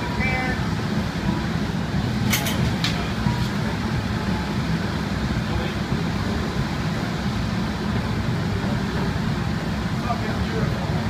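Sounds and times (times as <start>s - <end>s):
gas furnace burner rumbling: 0.0s - 11.0s.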